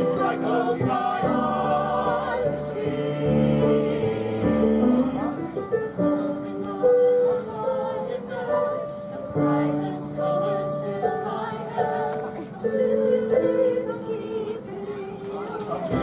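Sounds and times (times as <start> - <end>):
chorus singing in harmony: 0.0 - 16.0.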